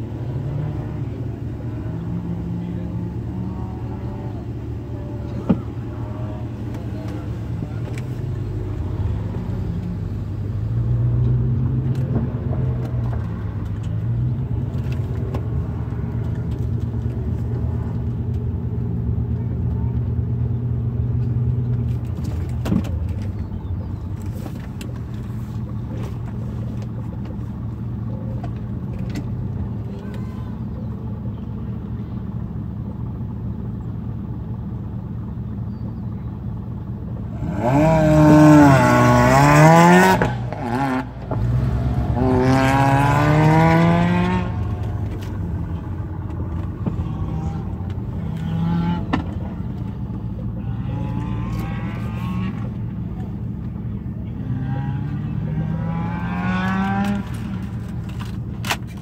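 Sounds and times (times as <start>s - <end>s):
car engine accelerating hard: 0.0s - 59.0s
car engine idling: 0.0s - 59.0s.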